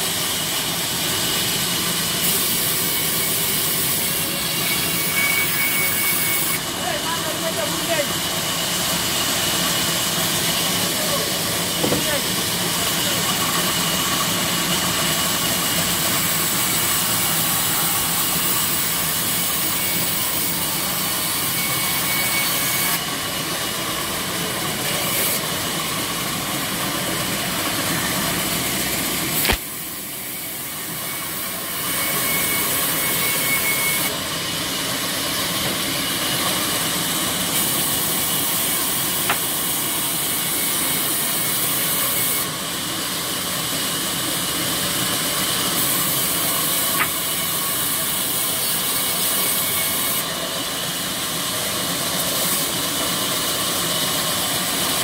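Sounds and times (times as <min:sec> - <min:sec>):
sawmill saws whirring: 0:00.0 - 0:55.0.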